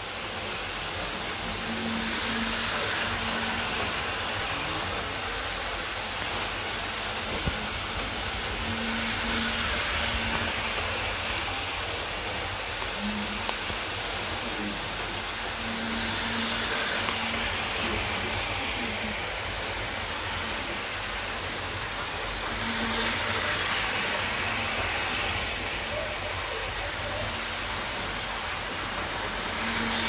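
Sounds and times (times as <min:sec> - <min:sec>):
model train whirring: 0:00.0 - 0:30.0.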